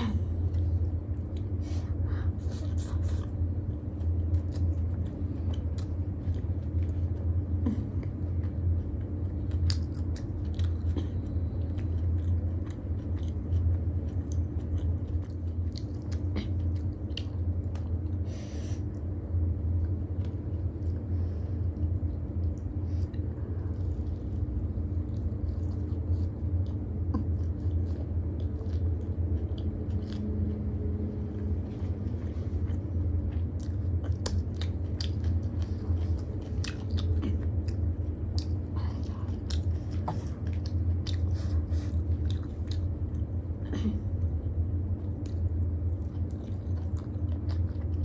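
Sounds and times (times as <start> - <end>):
steady low hum: 0.0 - 48.0
biting and chewing crisp food: 0.2 - 48.0.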